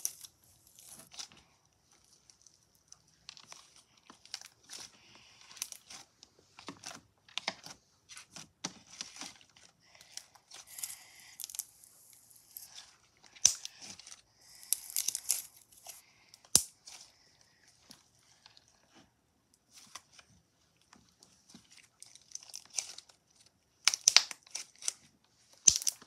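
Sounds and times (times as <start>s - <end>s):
slime squishing and crackling: 0.0s - 18.7s, 21.4s - 26.0s.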